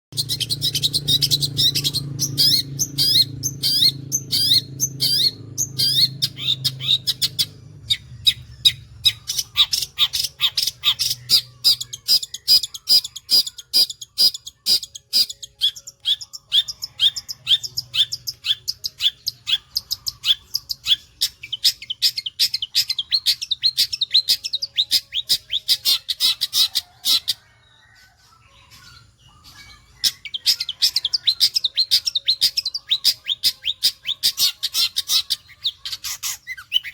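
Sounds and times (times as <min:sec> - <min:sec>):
shrike chattering song: 0:00.2 - 0:27.5, 0:28.6 - 0:36.9.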